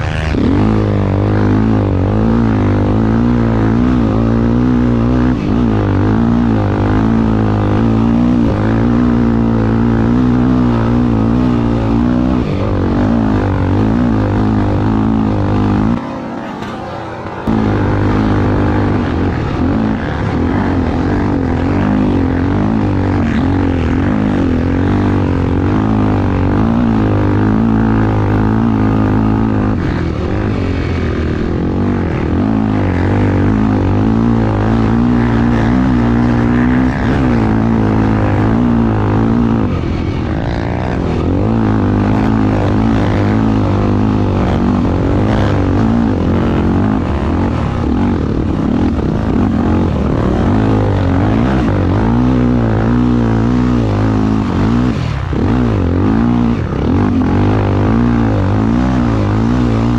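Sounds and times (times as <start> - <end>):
racing engine at high revs: 0.0 - 59.9
steady rushing noise: 0.0 - 59.9.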